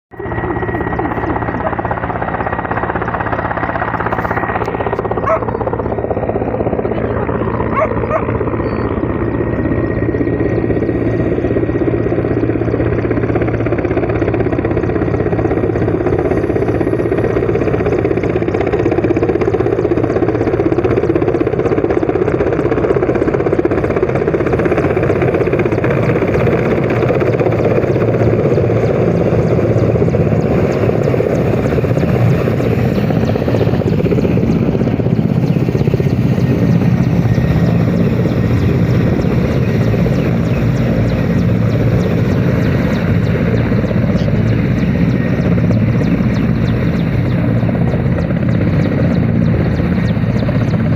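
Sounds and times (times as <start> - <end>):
helicopter rotor and engine: 0.1 - 50.9.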